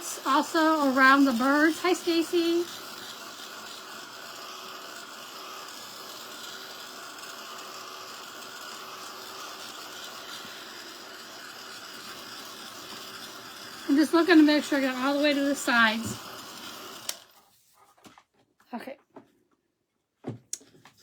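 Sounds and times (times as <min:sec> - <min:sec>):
heat tool blowing: 0:00.0 - 0:17.3.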